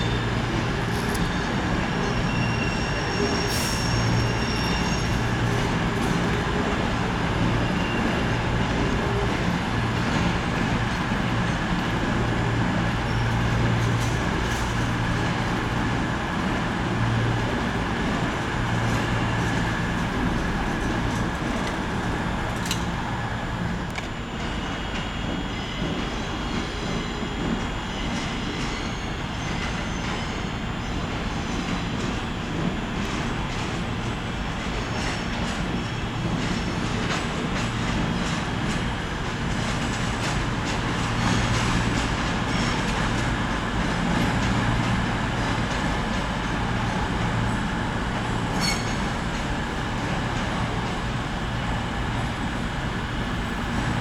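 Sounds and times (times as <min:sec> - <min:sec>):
diesel train engines humming: 0:00.0 - 0:54.0
train wheels clicking and squealing: 0:00.0 - 0:54.0.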